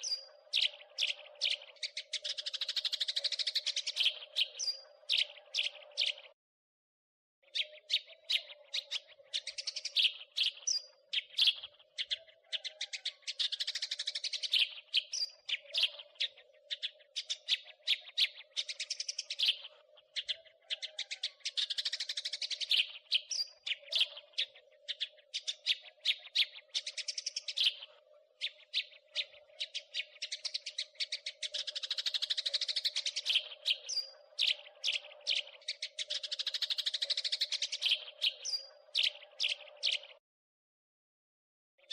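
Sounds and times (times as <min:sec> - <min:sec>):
sparrow chirping and chattering: 0:00.0 - 0:06.4, 0:07.4 - 0:40.2.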